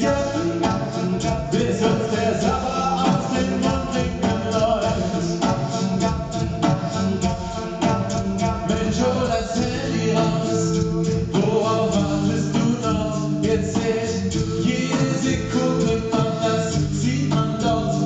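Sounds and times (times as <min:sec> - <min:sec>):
male group singing in close harmony: 0:00.0 - 0:18.0
vocal percussion beat: 0:00.0 - 0:18.0.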